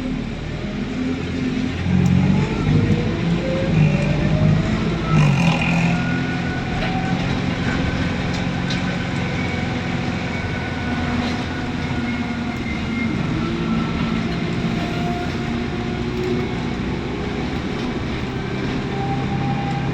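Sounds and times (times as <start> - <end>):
bus diesel engine running: 0.0 - 19.9.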